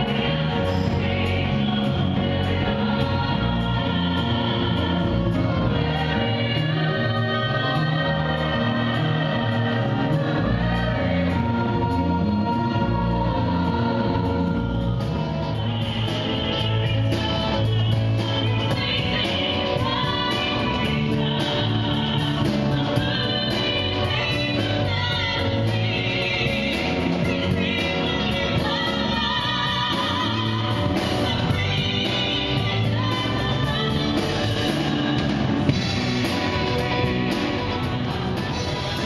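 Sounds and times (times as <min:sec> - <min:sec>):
band with guitar: 0:00.0 - 0:39.0
group singing rock song: 0:00.0 - 0:39.0.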